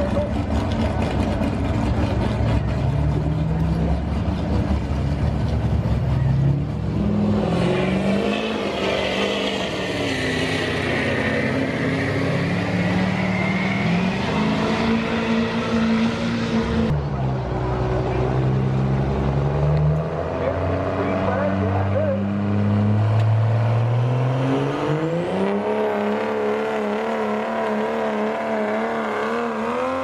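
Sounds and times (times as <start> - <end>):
diesel truck engine under load: 0.0 - 30.0.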